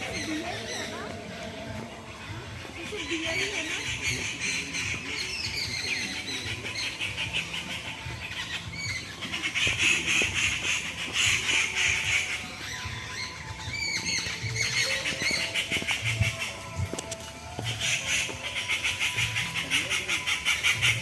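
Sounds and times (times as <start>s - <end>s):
small birds chirping and twittering: 0.0s - 21.0s.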